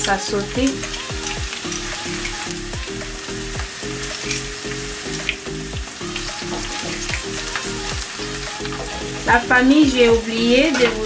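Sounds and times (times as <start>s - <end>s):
onions and garlic sizzling in oil: 0.0s - 11.0s.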